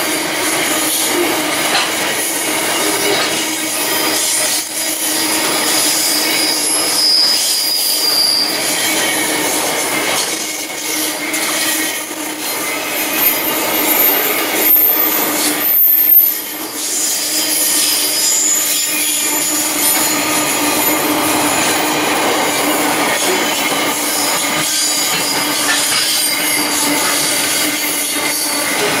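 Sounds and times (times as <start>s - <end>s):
high wheel squeal: 0.0s - 29.0s
train wheels rumbling on rail: 0.0s - 29.0s.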